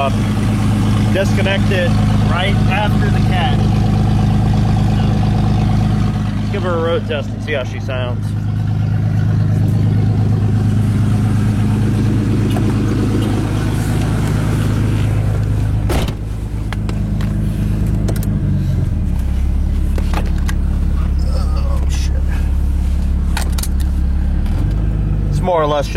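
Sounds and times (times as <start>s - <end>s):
unmuffled engine driving: 0.0s - 25.9s.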